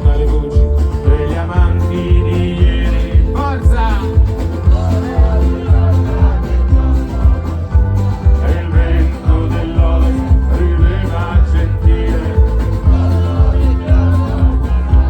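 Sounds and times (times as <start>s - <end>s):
folk-rock band playing: 0.0s - 15.0s.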